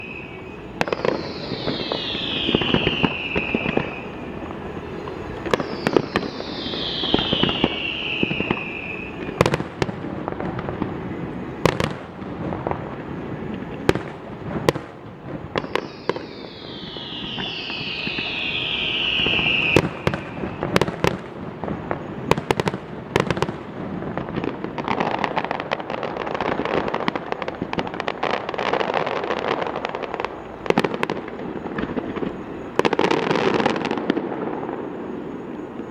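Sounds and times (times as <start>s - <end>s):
descending firework whistles: 0.0s - 35.9s.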